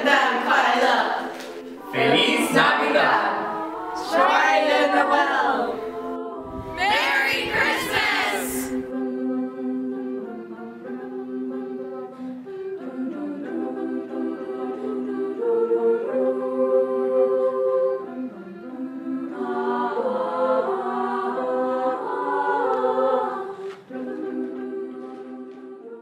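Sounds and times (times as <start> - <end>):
choir singing unaccompanied: 0.0 - 26.0.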